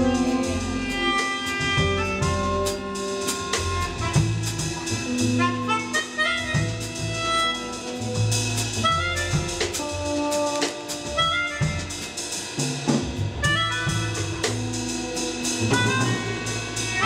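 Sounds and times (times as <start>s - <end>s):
cymbal and drum strikes: 0.0s - 17.0s
live jazz band playing: 0.0s - 17.0s.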